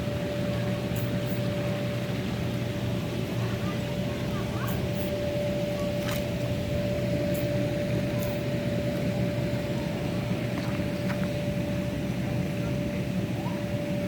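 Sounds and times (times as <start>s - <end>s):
generator humming: 0.0s - 14.0s.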